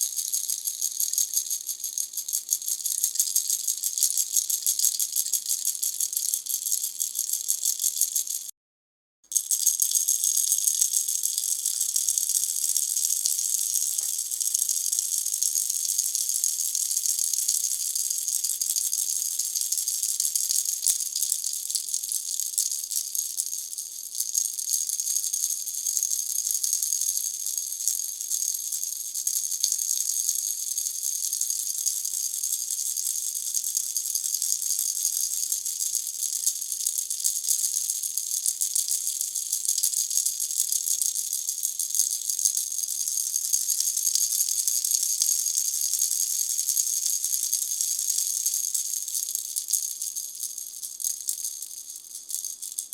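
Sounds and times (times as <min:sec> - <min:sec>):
baby rattle toy shaking: 0:00.0 - 0:08.5, 0:09.3 - 0:52.9.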